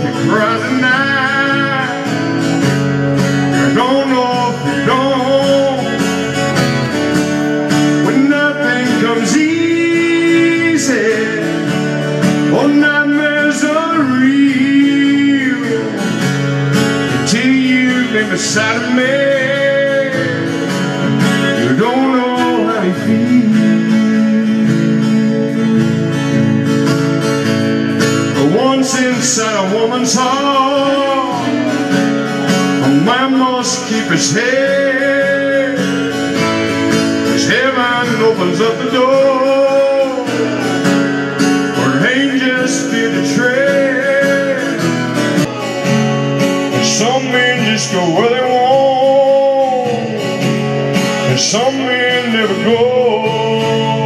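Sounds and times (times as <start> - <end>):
man singing: 0.0 - 26.7, 27.9 - 54.0
acoustic guitars strumming: 0.0 - 54.0.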